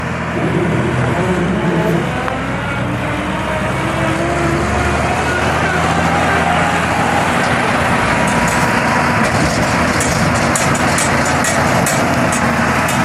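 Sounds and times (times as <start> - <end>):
combine harvester humming: 0.0 - 13.0.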